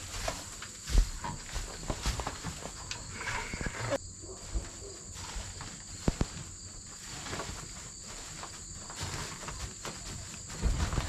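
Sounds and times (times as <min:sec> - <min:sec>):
insect chirring: 0:00.0 - 0:11.0
rustling and scraping: 0:00.0 - 0:11.0.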